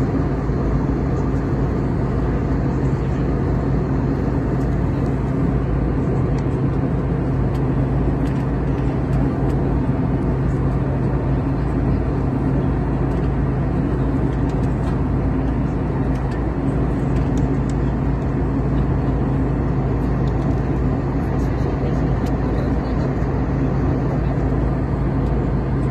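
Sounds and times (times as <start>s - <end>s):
airliner cabin rumble: 0.0s - 25.9s
steady low hum: 0.0s - 25.9s.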